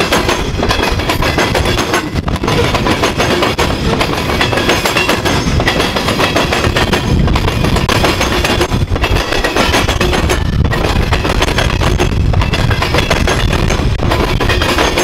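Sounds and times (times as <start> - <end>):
rapid clicks and clanks: 0.0 - 15.0
train wheels rumbling on rails: 0.0 - 15.0.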